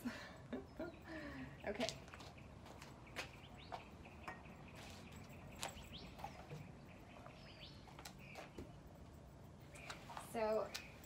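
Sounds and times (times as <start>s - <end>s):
bird chirps: 0.6s - 11.0s.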